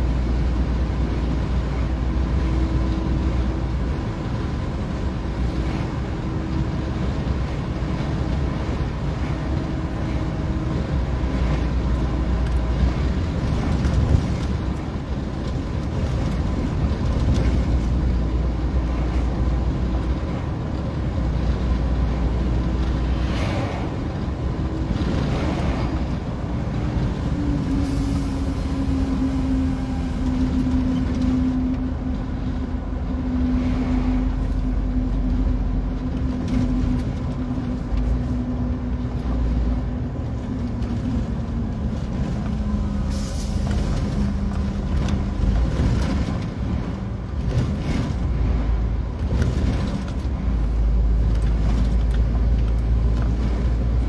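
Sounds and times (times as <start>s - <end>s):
truck engine drone in cab: 0.0s - 54.0s
truck rushing past: 0.0s - 54.0s.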